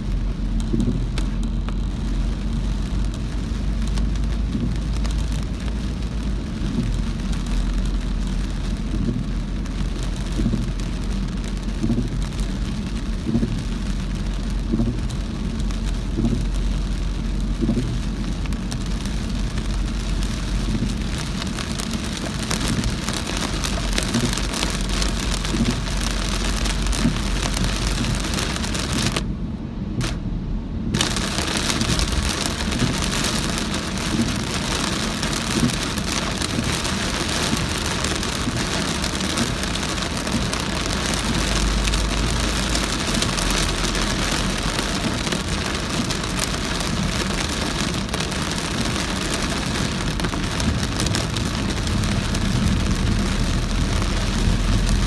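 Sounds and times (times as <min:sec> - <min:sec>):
car engine and tyres rumbling: 0:00.0 - 0:55.0
rain on car roof: 0:00.0 - 0:55.0.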